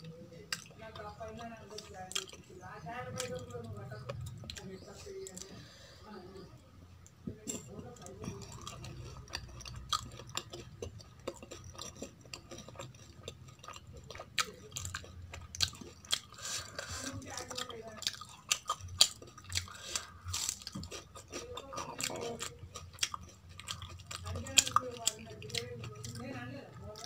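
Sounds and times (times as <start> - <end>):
wet chewing: 0.0 - 6.0, 7.0 - 27.0.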